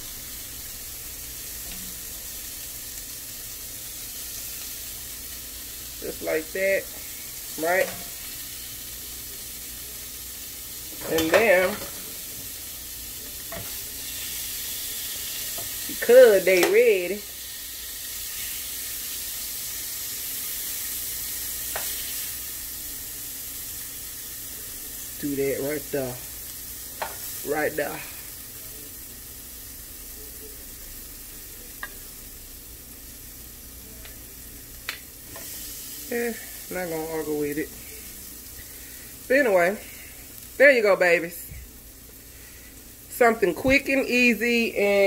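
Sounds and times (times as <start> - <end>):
vegetables sizzling in a skillet: 0.0 - 45.0.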